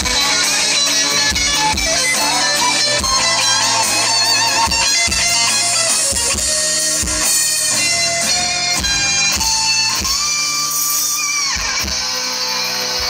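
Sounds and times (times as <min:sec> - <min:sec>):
bass guitar: 0:00.0 - 0:13.0
drums: 0:00.0 - 0:13.0
guitar melody: 0:00.0 - 0:13.0.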